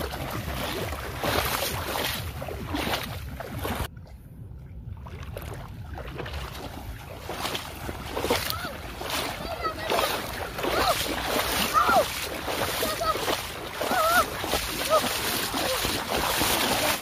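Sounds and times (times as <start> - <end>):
water splashing around wading legs: 0.0 - 4.2, 4.8 - 17.0
wind rumbling on microphone: 0.0 - 17.0.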